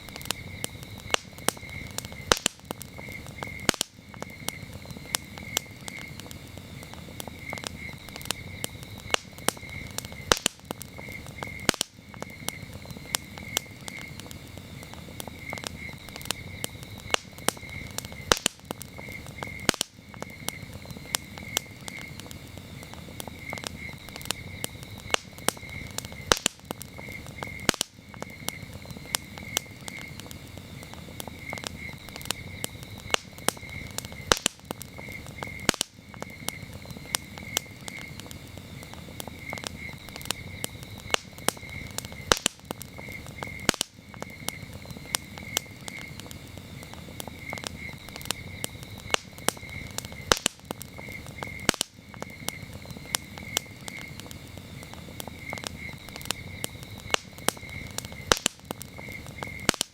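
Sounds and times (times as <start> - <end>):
campfire crackling: 0.0 - 59.9
crickets chirping: 0.0 - 59.9.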